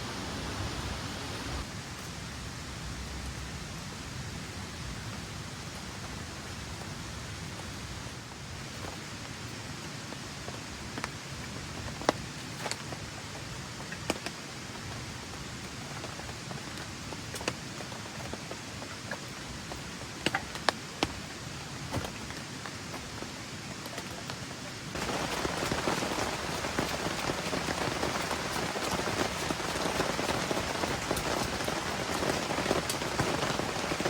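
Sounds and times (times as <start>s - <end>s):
rain falling: 0.0s - 34.0s.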